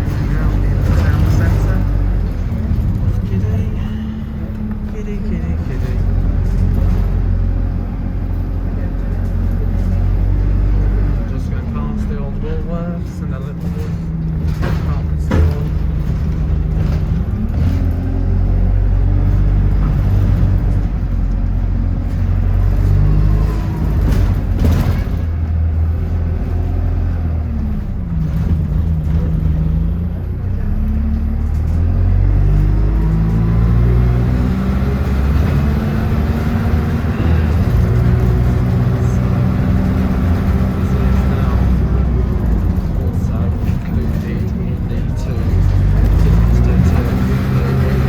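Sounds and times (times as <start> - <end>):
bus engine under load: 0.0 - 48.0.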